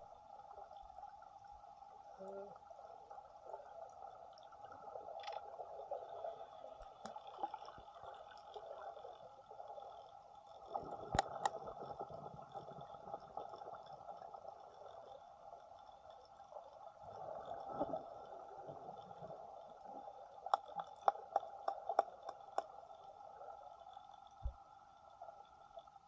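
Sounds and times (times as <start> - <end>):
underwater gurgling: 0.0 - 26.0.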